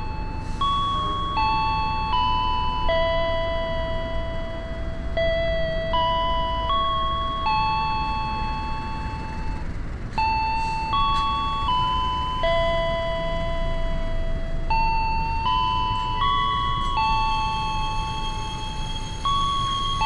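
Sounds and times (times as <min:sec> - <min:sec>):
electronic chime melody: 0:00.0 - 0:20.0
train rumble: 0:00.0 - 0:20.0.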